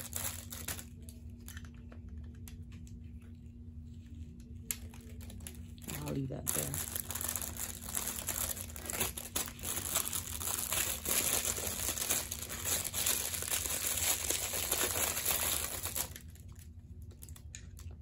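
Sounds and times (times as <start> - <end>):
plastic bag crinkling: 0.0 - 1.7, 4.7 - 18.0.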